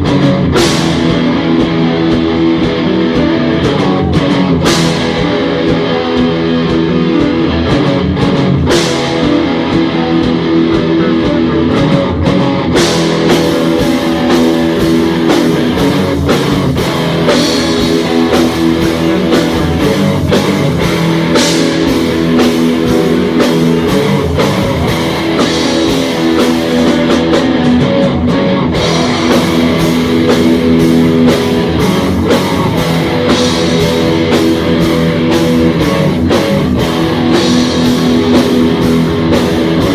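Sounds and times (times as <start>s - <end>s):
drum kit: 0.0s - 39.9s
electric guitars riffing: 0.0s - 39.9s.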